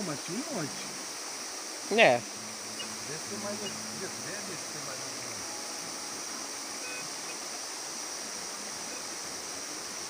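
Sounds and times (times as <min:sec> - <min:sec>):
high hiss: 0:00.0 - 0:10.0
waterfall and stream rushing: 0:00.0 - 0:10.0.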